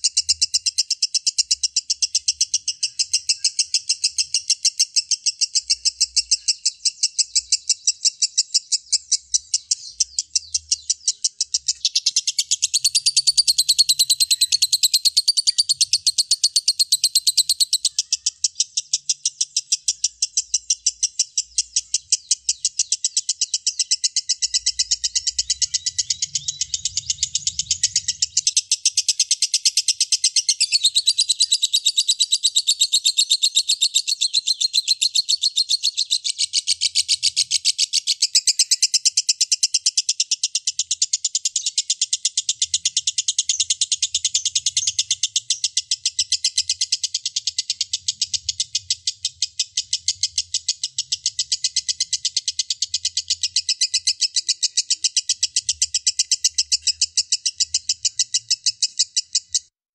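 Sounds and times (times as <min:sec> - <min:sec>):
bird chattering trill: 0:00.0 - 0:59.7.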